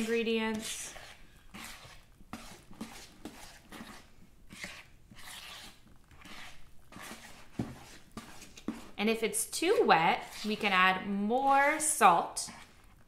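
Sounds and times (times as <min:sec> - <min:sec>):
squishy dough stirring in a bowl: 0:00.0 - 0:13.0.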